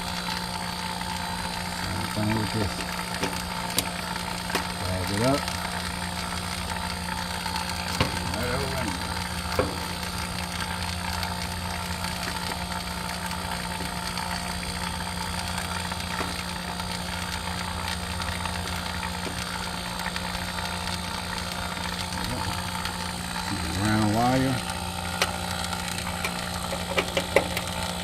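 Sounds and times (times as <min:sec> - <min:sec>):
engine-like mechanical drone: 0:00.0 - 0:28.0.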